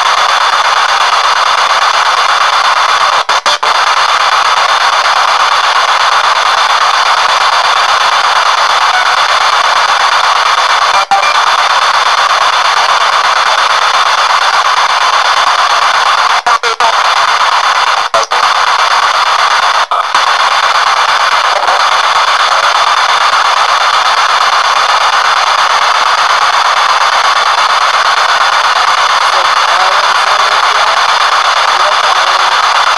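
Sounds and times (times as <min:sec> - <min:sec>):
radio static hiss: 0:00.0 - 0:32.9.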